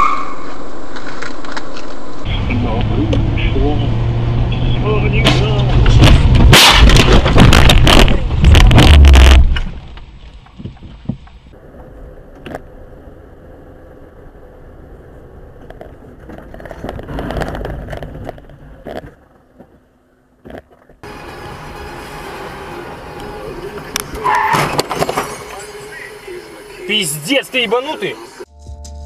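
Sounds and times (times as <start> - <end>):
car and road noise: 0.0 - 29.0.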